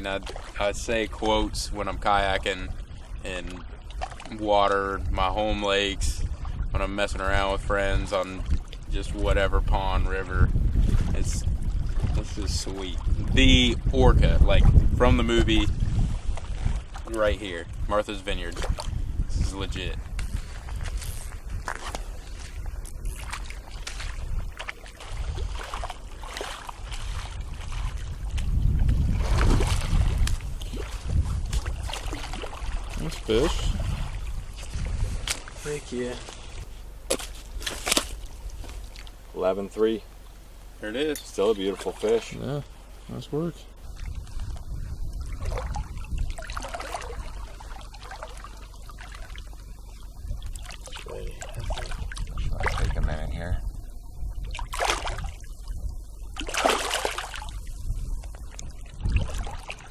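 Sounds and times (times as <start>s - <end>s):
small water splashes: 0.0s - 6.6s, 7.8s - 9.0s, 10.7s - 39.3s, 43.8s - 53.4s, 54.0s - 59.9s
wind rumbling on microphone: 0.0s - 40.8s, 41.5s - 59.9s
seawater trickling and sloshing: 0.0s - 59.9s.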